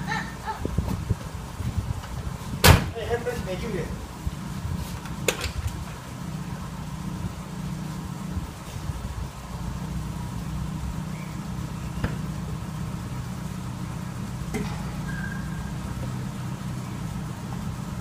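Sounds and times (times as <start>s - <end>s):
car low rumble: 0.0s - 18.0s.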